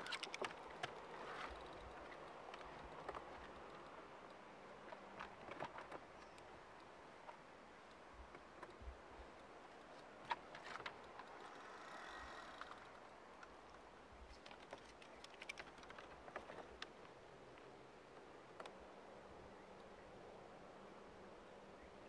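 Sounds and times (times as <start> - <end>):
faint clicks of fishing tackle: 0.0 - 17.7.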